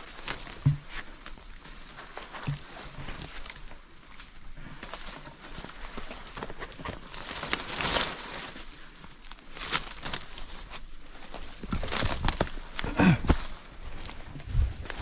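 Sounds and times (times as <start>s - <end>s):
insects droning: 0.0s - 15.0s
undergrowth rustling and snapping: 0.0s - 15.0s.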